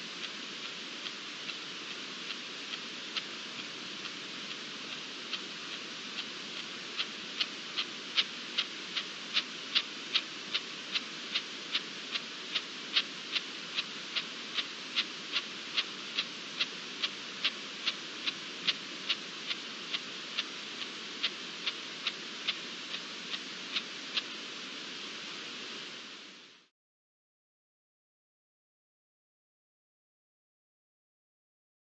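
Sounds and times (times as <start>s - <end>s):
constant hiss: 0.0s - 26.7s.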